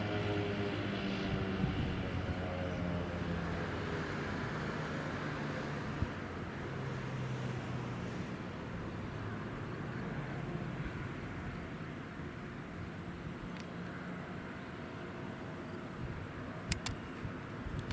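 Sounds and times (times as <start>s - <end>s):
low engine hum: 0.0s - 17.9s
traffic noise: 0.0s - 17.9s.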